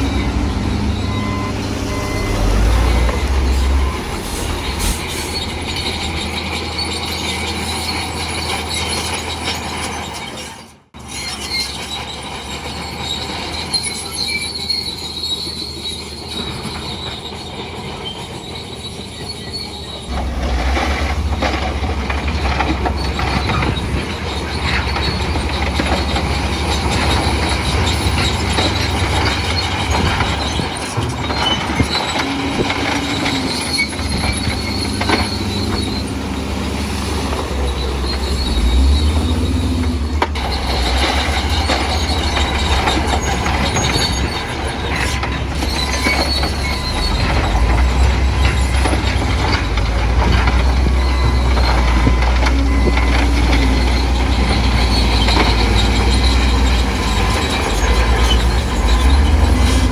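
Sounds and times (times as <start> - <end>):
diesel engine rumble: 0.0 - 59.9
steel tracks squealing and clanking: 0.0 - 59.9.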